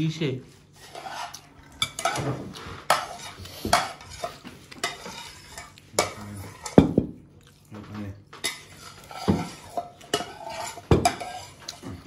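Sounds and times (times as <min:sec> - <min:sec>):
metal spoons clinking on plates: 0:00.9 - 0:07.0, 0:08.4 - 0:12.0.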